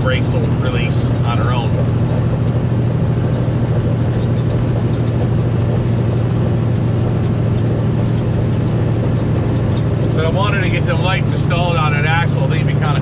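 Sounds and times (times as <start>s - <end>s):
road noise: 0.0s - 13.0s
truck diesel engine drone: 0.0s - 13.0s.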